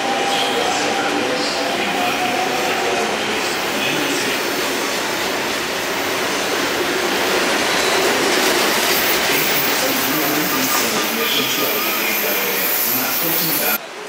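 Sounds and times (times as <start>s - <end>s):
train wheels on rails: 0.0s - 13.8s.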